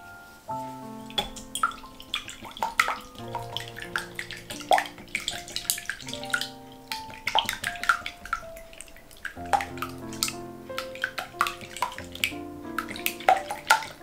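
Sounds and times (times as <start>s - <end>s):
water splashing and dripping: 0.9s - 14.0s
water plinks and plops: 1.1s - 14.0s.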